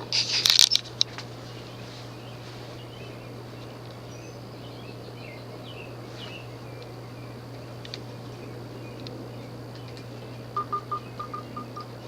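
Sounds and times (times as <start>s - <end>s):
ceiling fan motor hum: 0.0s - 12.0s
faint chirps: 0.7s - 12.0s.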